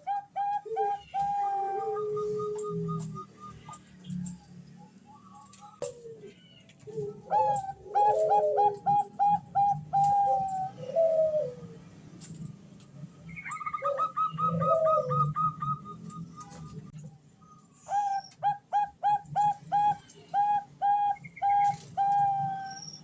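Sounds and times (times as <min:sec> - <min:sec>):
dove cooing: 0:00.0 - 0:11.9, 0:13.4 - 0:16.8, 0:17.8 - 0:23.0.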